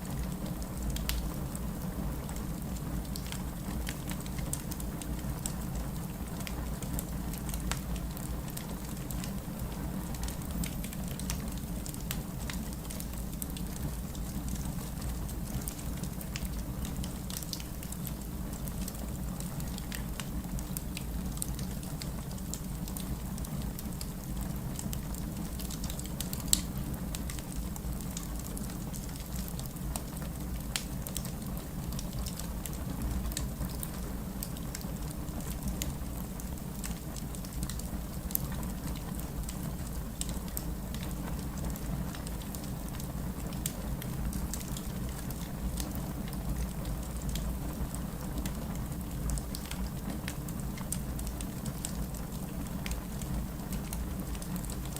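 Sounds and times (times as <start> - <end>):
fireplace crackling: 0.0 - 54.9.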